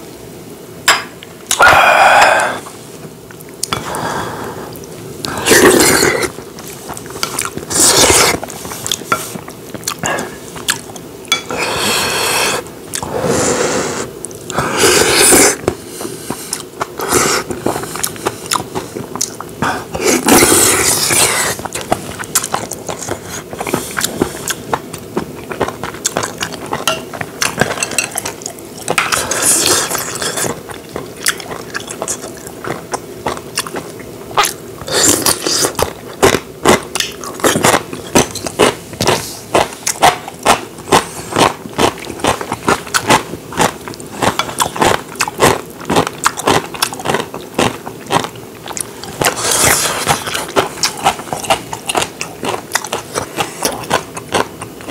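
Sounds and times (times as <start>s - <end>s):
wet chewing: 4.8s - 11.1s, 14.2s - 54.9s.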